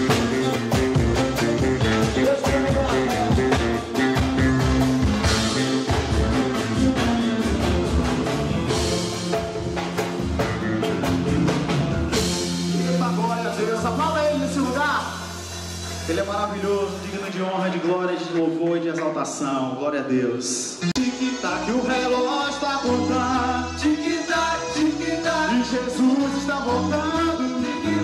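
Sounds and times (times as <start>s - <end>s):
live band playing: 0.0s - 19.4s, 20.5s - 28.0s.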